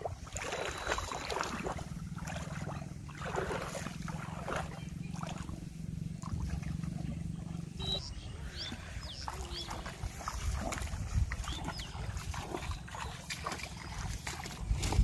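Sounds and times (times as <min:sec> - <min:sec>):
wading through water splashing: 0:00.0 - 0:15.0.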